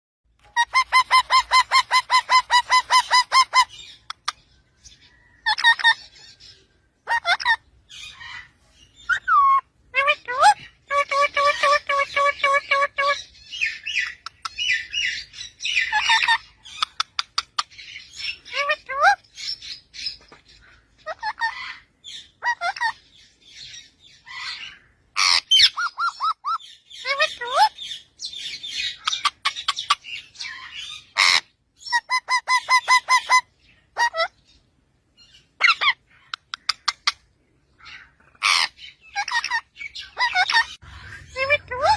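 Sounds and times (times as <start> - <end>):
parrot squawking: 0.4 - 4.4, 5.4 - 6.4, 7.0 - 23.0, 24.2 - 34.4, 35.5 - 41.9.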